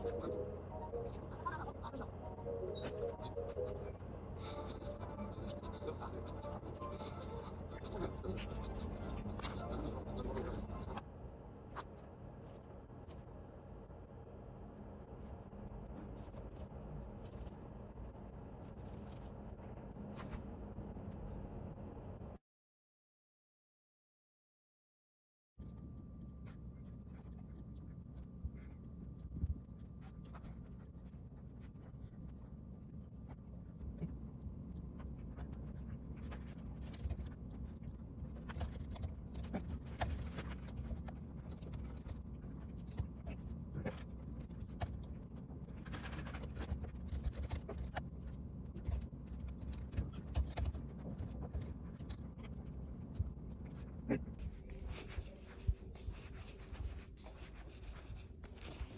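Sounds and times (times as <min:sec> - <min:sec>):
low room hum: 0:00.0 - 0:22.4, 0:25.6 - 0:58.9.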